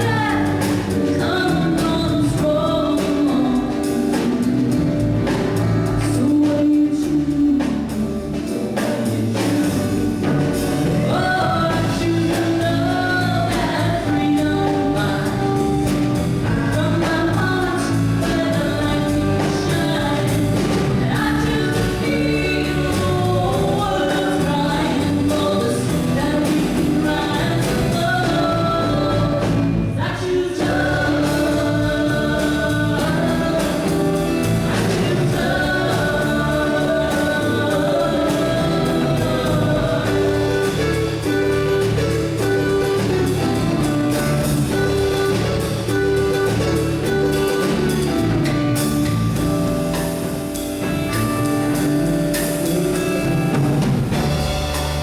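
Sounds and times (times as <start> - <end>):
voices singing gospel song: 0.0 - 48.5
instrumental accompaniment: 0.0 - 55.0.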